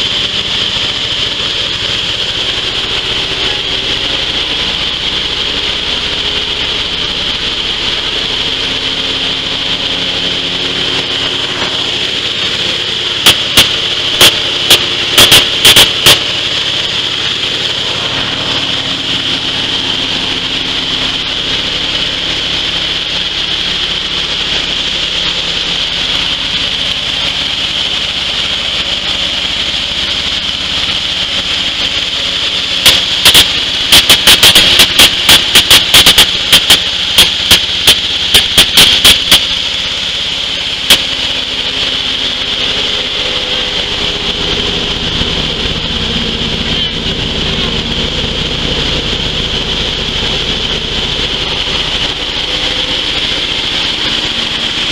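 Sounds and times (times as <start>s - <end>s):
coffee huller machine humming: 0.0s - 54.9s.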